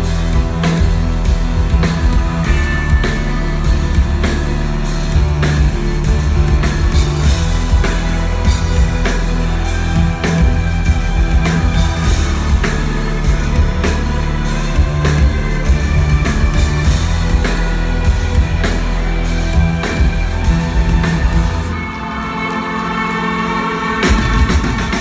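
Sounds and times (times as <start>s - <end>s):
electric guitar: 0.0s - 25.0s
heavy bass: 0.0s - 25.0s
steady drum beat: 0.0s - 25.0s.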